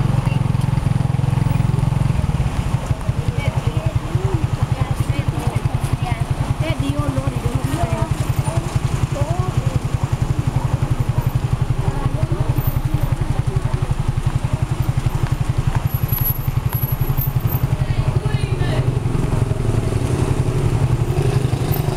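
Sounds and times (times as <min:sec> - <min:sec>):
engine throbbing: 0:00.0 - 0:21.9
faint voices: 0:00.2 - 0:19.8.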